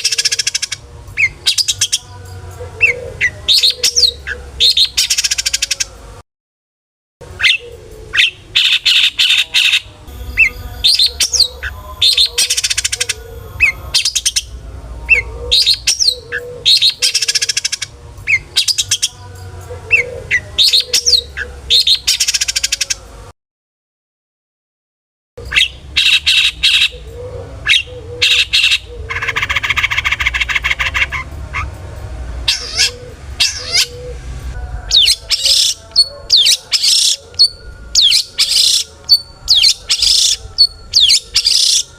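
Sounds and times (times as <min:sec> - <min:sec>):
shrike song with whistles and chatter: 0:00.0 - 0:06.2, 0:07.2 - 0:23.3, 0:25.4 - 0:41.9.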